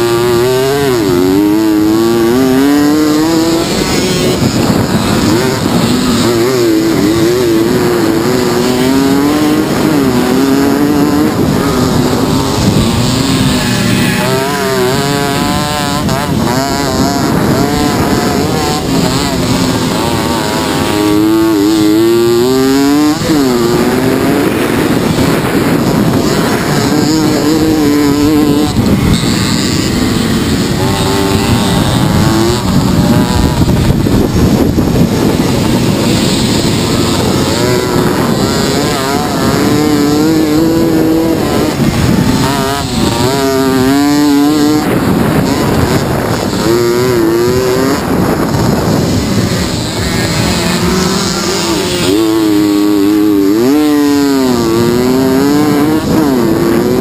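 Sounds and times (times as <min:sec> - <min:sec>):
moped engines revving: 0:00.0 - 0:57.0.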